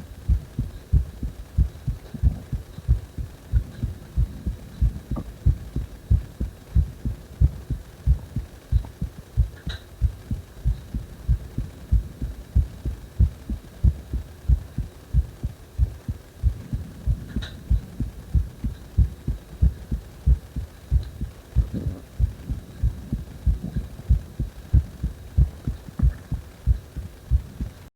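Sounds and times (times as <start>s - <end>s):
heartbeat thumps: 0.0s - 27.9s.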